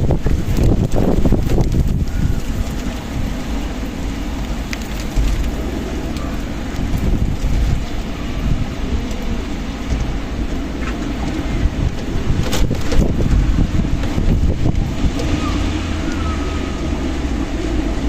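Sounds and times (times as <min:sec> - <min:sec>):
strong wind blowing: 0:00.0 - 0:18.0
wind buffeting microphone: 0:00.0 - 0:18.0.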